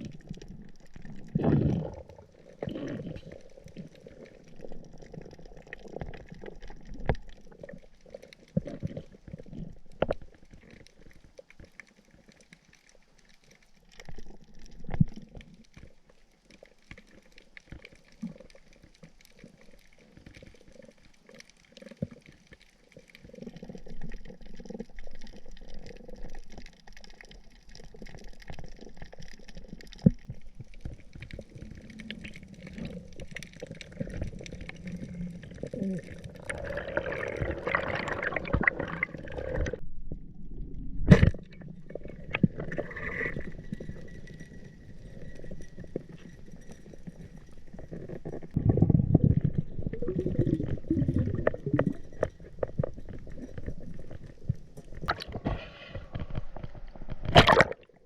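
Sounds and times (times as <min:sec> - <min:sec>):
bubbling water: 0:00.0 - 0:58.0
muffled underwater water movement: 0:00.0 - 0:58.0.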